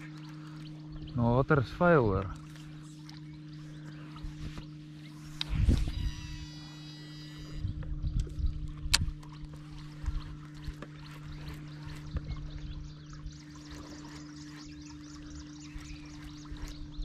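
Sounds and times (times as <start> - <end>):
water lapping against boat hull: 0.0 - 6.0, 7.1 - 17.0
steady low hum: 0.0 - 17.0.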